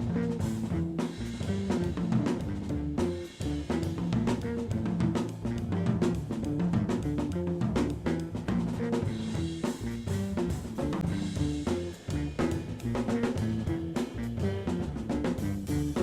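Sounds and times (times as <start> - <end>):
drum kit: 0.0 - 16.0
jazz band playing: 0.0 - 16.0.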